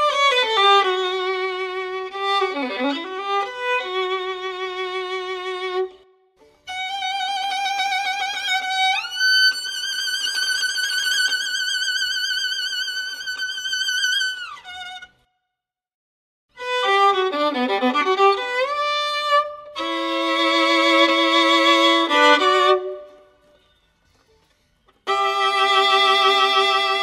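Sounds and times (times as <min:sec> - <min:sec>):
solo violin with vibrato: 0:00.0 - 0:06.1, 0:06.7 - 0:15.2, 0:16.6 - 0:23.4, 0:25.0 - 0:27.0.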